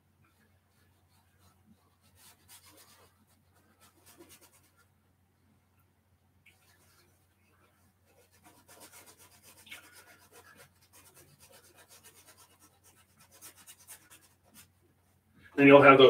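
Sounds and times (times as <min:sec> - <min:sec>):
paintbrush scratching on canvas: 0:00.0 - 0:05.0, 0:06.5 - 0:15.2.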